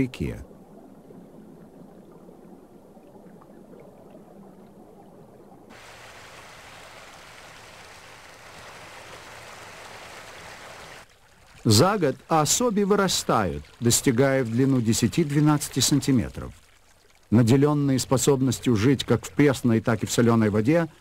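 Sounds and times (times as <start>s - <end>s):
stream water running over rocks: 1.0s - 21.0s.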